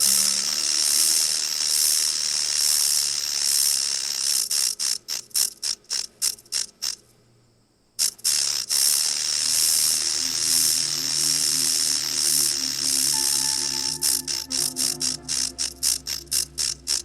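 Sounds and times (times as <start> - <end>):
insect buzzing trill: 0.0 - 7.1, 8.0 - 17.0.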